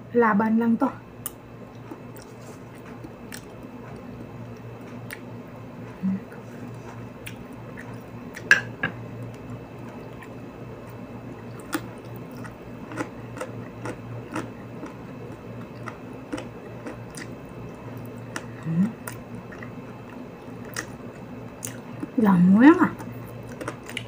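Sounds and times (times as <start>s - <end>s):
steady low hum: 0.0s - 24.0s
person chewing close up: 1.2s - 5.3s, 5.9s - 8.5s, 9.2s - 22.2s, 23.0s - 24.0s.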